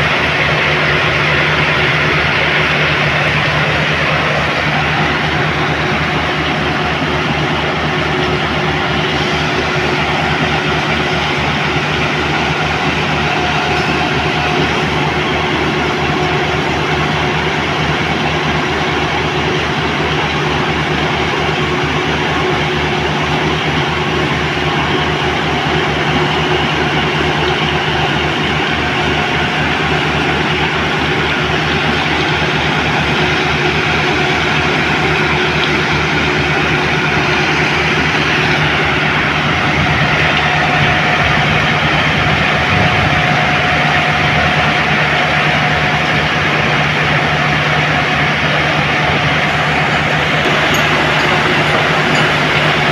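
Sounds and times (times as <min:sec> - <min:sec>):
heavy machinery engine running: 0:00.0 - 0:52.9.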